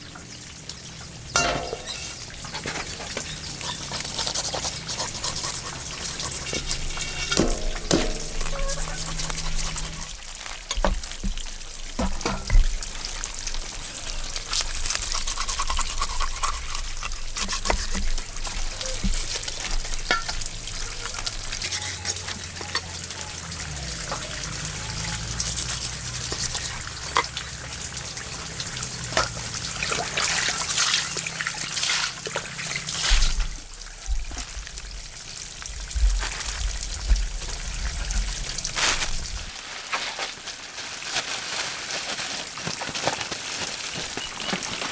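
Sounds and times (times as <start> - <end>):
water splashing and trickling: 0.0 - 44.9.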